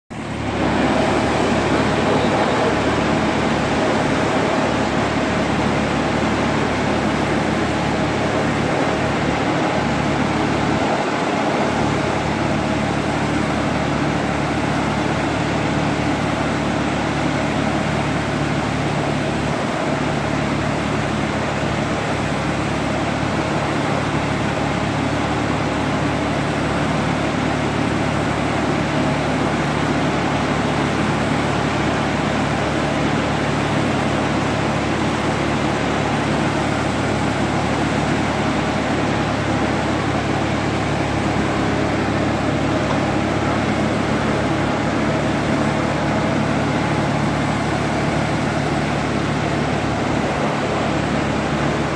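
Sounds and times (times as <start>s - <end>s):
tractor engine running: 0.0s - 51.9s
blower fan rushing air: 0.1s - 51.9s.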